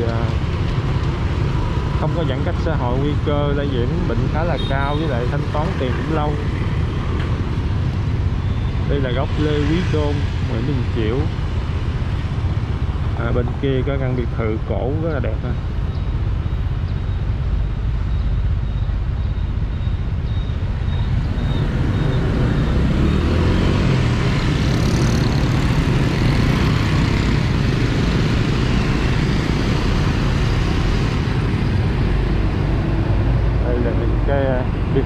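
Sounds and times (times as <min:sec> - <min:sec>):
motorbikes passing: 0:00.0 - 0:15.7, 0:20.5 - 0:35.0
street traffic rumble: 0:00.0 - 0:35.0.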